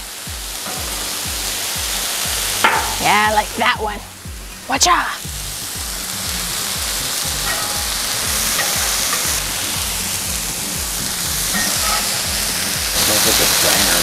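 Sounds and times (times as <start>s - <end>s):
background music with bass beat: 0.0s - 14.0s
burgers sizzling on griddle: 0.0s - 14.0s.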